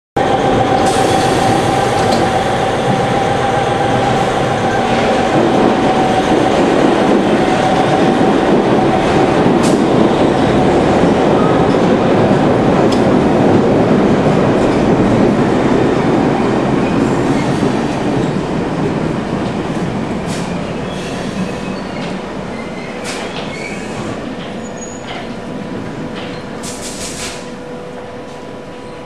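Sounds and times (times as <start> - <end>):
underground train rumble: 0.2 - 29.0.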